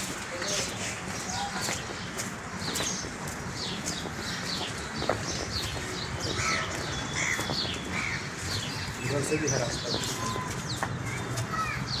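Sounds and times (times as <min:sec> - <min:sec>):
small birds chirping: 0:00.0 - 0:12.0
lower rounder bird calls: 0:00.6 - 0:12.0.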